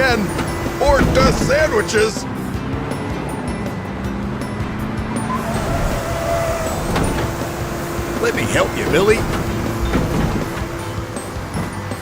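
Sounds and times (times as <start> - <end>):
truck engines idling: 0.0 - 12.0.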